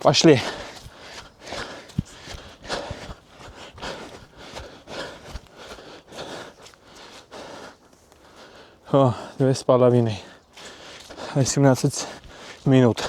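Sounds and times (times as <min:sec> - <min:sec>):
footfalls on forest ground: 0:00.0 - 0:08.2, 0:10.2 - 0:13.0
heavy rhythmic breathing: 0:00.0 - 0:13.0.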